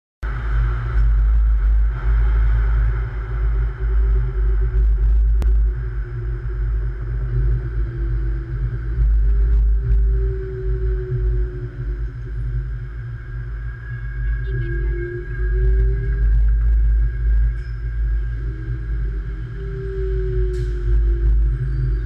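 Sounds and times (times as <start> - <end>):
faint steady whine: 0.2 - 22.0
train rumbling on track: 0.2 - 22.0.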